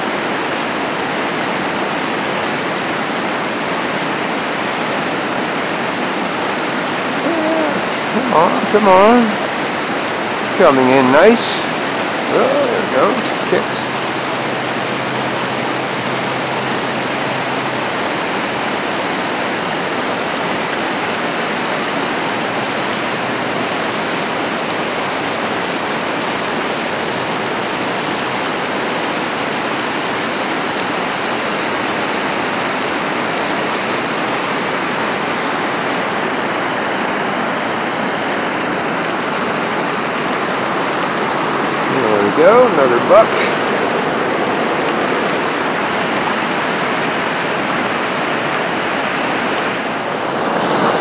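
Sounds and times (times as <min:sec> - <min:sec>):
river water rushing: 0:00.0 - 0:51.0
small waves washing against bank: 0:00.0 - 0:51.0.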